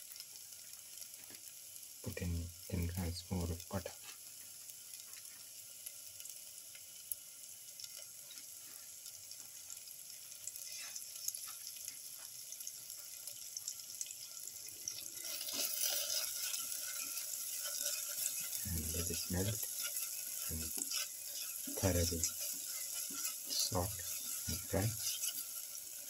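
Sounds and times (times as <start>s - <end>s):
butter sizzling in a pan: 0.0s - 26.0s.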